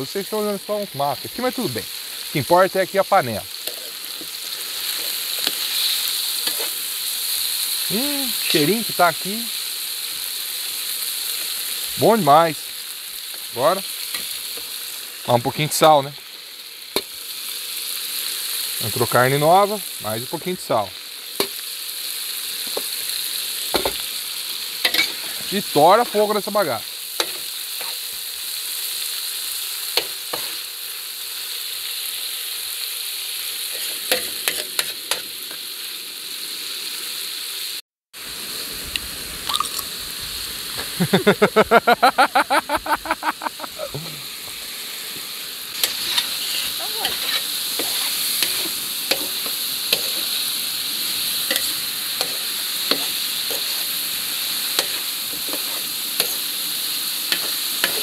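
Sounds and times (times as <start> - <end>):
pork sizzling in a pan: 0.0 - 58.0.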